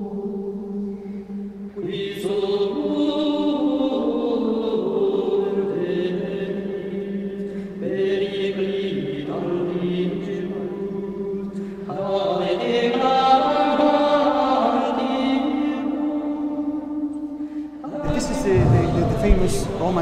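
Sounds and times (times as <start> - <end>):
voices chanting long notes: 0.0 - 20.0.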